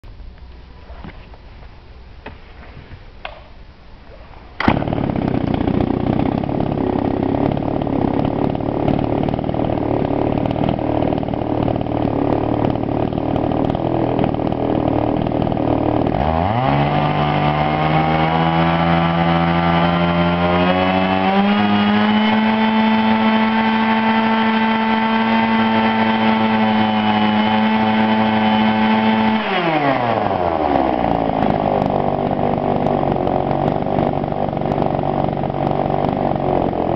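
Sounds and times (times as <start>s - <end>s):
chainsaw engine idling and revving: 4.6s - 36.9s.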